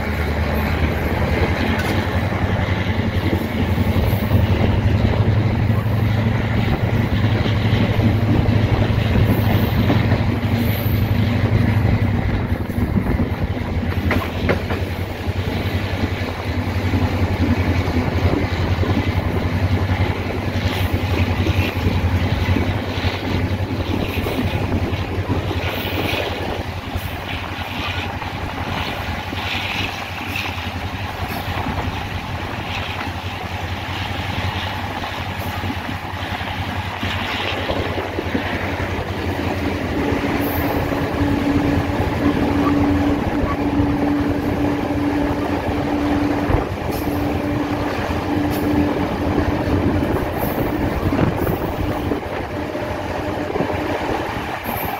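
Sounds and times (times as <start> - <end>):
diesel locomotive engine humming: 0.0 - 54.9
train wheels clattering on rail: 0.0 - 54.9.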